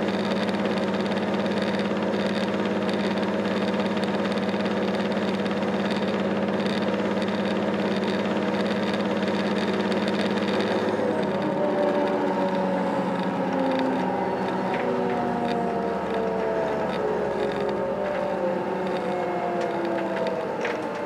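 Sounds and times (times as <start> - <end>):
train diesel engine drone: 0.0 - 21.0.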